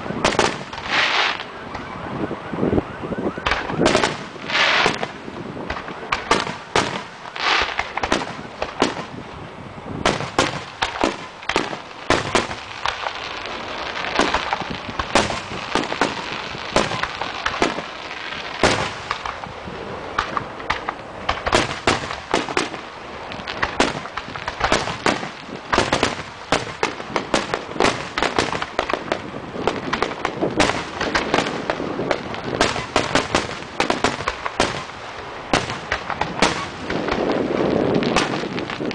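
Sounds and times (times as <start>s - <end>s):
fireworks bangs: 0.0s - 2.6s, 3.2s - 9.3s, 9.9s - 38.9s
fireworks crackling: 0.0s - 38.9s.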